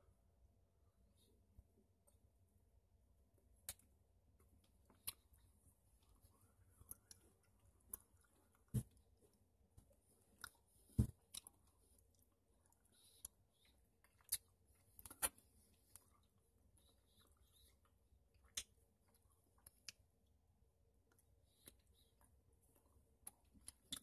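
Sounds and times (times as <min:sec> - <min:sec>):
faint chewing mouth sounds: 0:03.4 - 0:24.0.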